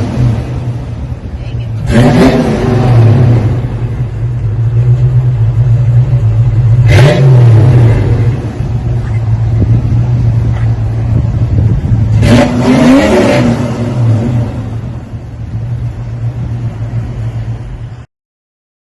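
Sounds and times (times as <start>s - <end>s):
car engine idling and revving: 0.0s - 18.1s.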